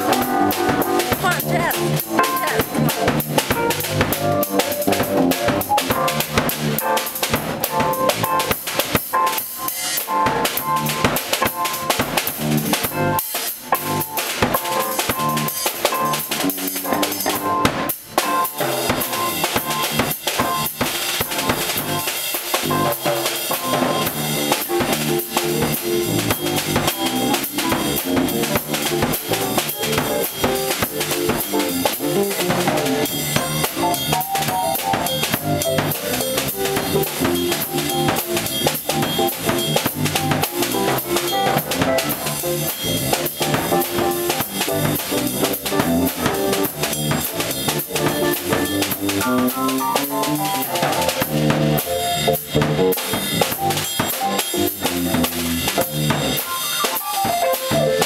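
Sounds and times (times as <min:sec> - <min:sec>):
keyboards and guitar chords: 0:00.0 - 0:08.5, 0:09.1 - 0:58.0
drum kit beat: 0:00.0 - 0:58.0.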